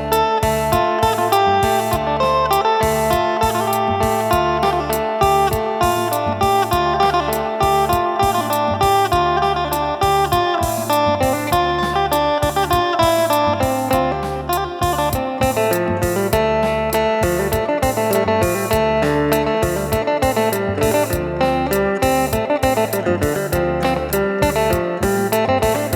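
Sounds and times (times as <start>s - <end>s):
low bass notes: 0.0s - 25.9s
plucked lute melody: 0.0s - 25.9s
regular beat: 0.0s - 25.9s.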